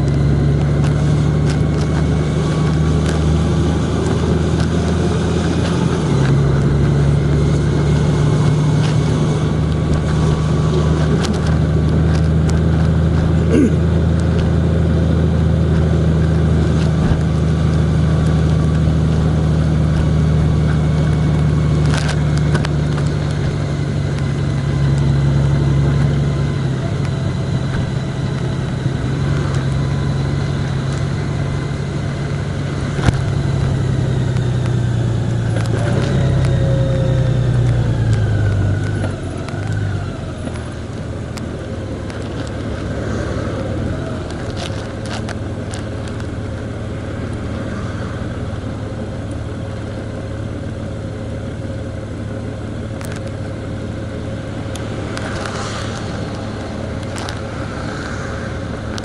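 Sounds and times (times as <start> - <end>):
road noise: 0.0 - 59.0
vehicle engine droning: 0.0 - 59.0.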